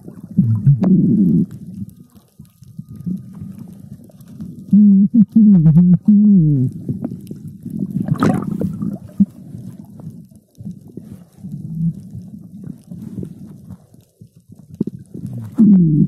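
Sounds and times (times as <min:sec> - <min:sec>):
muffled rumbling on microphone: 0:00.0 - 0:16.0.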